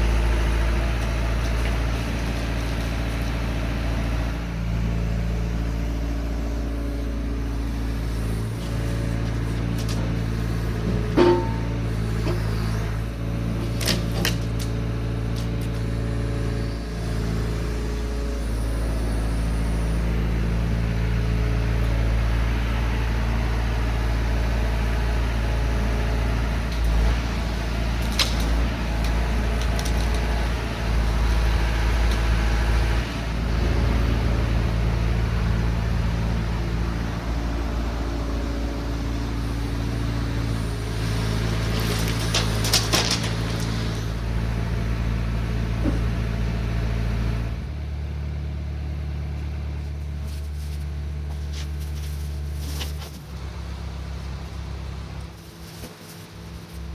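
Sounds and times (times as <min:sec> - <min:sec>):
truck engine running: 0:00.0 - 0:56.9.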